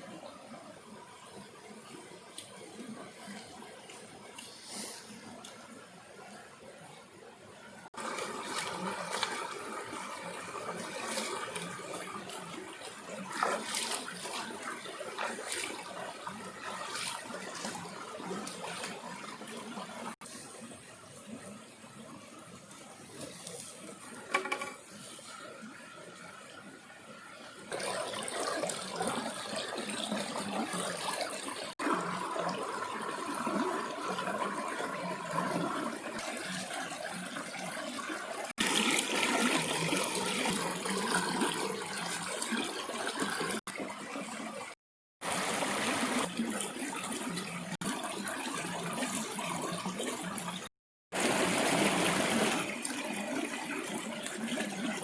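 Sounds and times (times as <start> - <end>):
water running and splashing: 7.8 - 26.8, 27.6 - 55.0.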